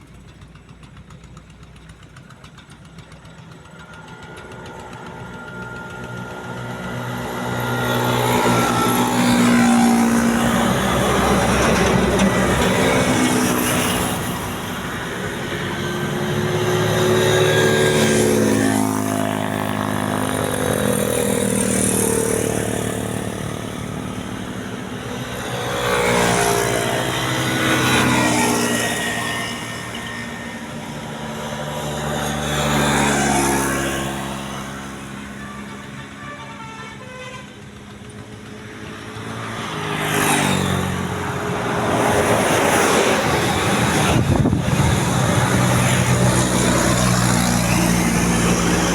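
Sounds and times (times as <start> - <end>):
vehicles passing by: 0.0 - 48.9.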